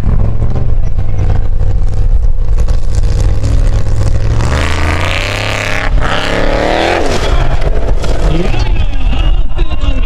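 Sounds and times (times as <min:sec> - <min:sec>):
buggy engine labouring and revving: 0:00.0 - 0:10.0.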